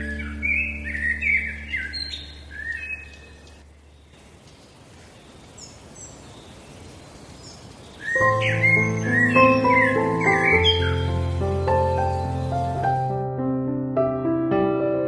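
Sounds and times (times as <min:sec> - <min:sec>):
birds chirping: 0:00.0 - 0:13.2.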